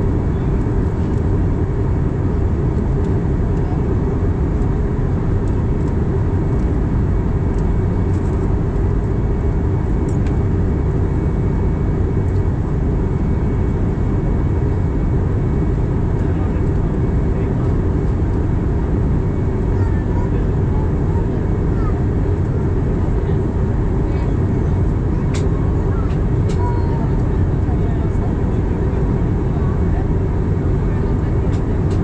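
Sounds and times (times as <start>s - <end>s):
airplane cabin engine roar: 0.0s - 32.0s.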